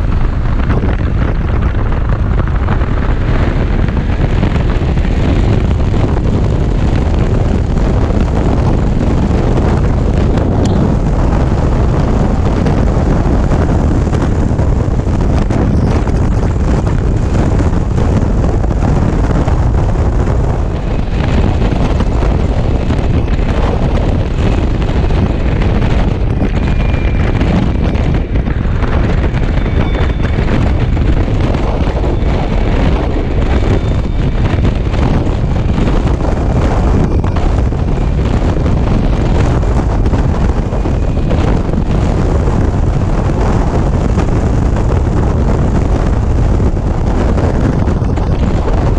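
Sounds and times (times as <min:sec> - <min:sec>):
road and traffic noise: 0:00.0 - 0:48.9
wind buffeting microphone: 0:00.0 - 0:48.9.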